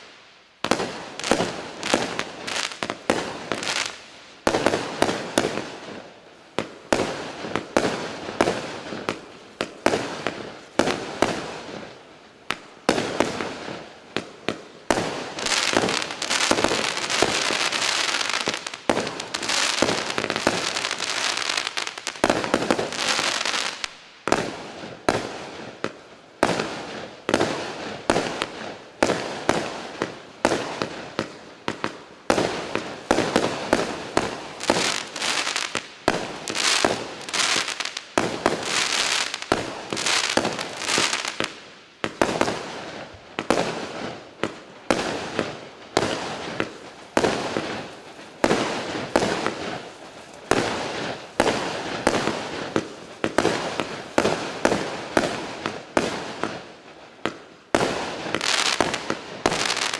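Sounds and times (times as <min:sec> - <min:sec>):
fireworks cake firing: 0:06.6 - 0:56.6.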